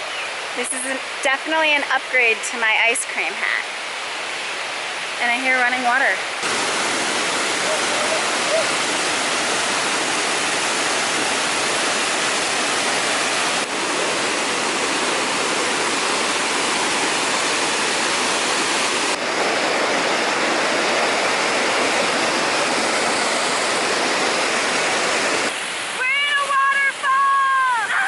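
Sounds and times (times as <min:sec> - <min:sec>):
fast-running water rushing: 0:00.0 - 0:28.0.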